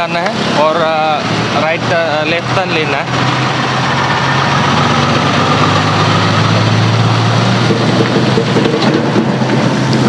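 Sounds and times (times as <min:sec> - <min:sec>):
highway traffic: 0:00.0 - 0:10.0
vehicle engine drone: 0:00.0 - 0:10.0.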